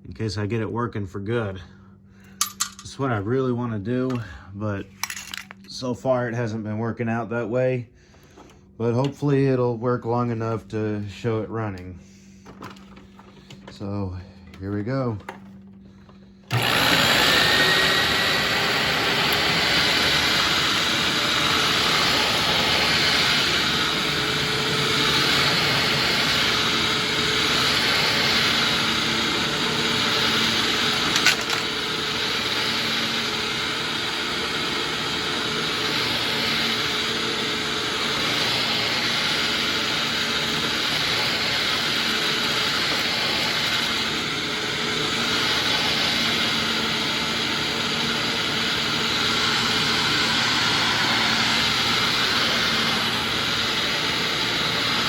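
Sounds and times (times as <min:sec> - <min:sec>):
vacuum cleaner motor whine: 0:03.1 - 0:55.0.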